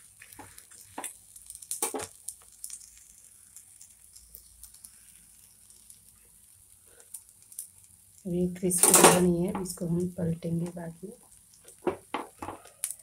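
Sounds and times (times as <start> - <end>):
bread sizzling in a pan: 0.0 - 13.0.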